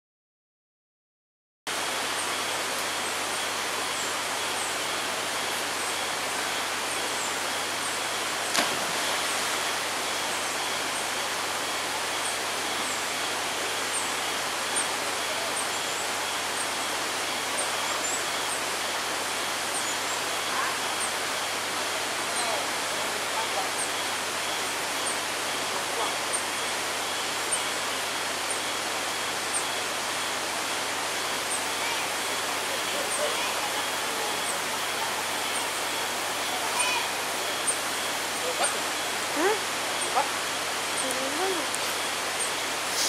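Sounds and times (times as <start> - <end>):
flowing water rushing: 1.7 - 43.0.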